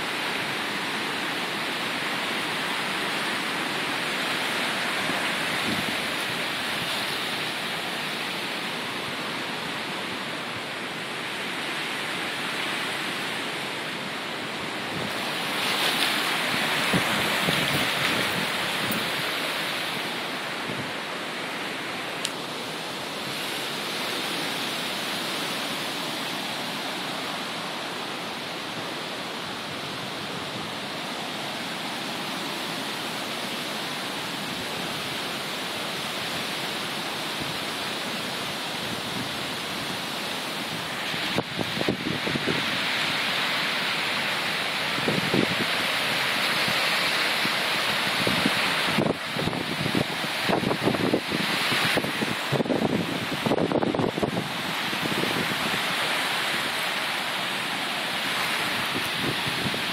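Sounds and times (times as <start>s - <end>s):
creek rushing: 0.0s - 59.9s.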